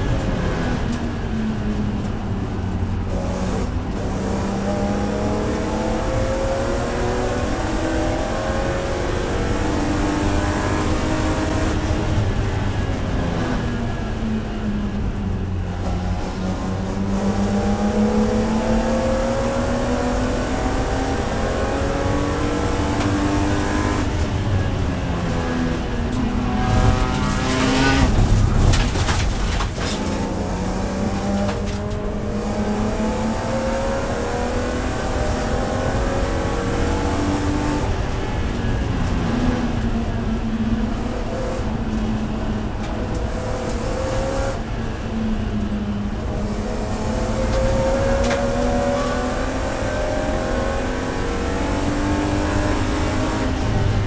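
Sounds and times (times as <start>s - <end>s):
race car engine revving: 3.0s - 14.1s, 15.5s - 54.0s.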